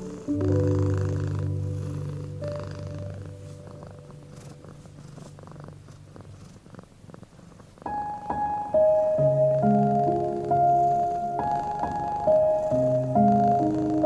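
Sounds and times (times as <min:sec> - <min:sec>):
piano notes: 0:00.0 - 0:06.8, 0:07.4 - 0:14.0
cat purring: 0:00.0 - 0:14.0.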